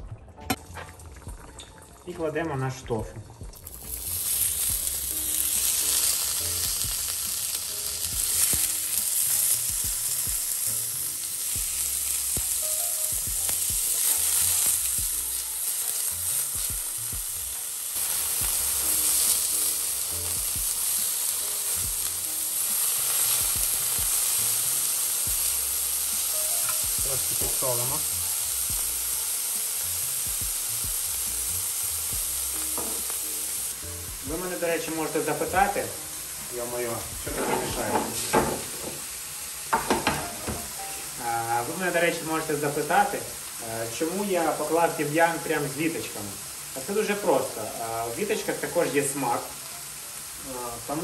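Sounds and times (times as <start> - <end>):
tofu sizzling in oil: 3.5 - 51.0.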